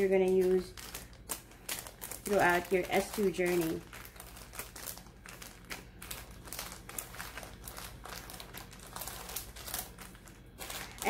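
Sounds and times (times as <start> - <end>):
faint low hum: 0.0 - 11.0
plastic bags crinkling: 0.0 - 11.0.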